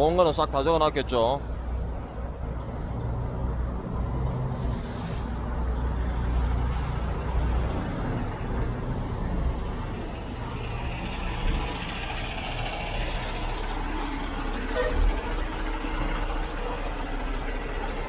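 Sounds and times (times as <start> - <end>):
diesel truck engines idling: 0.0 - 18.0.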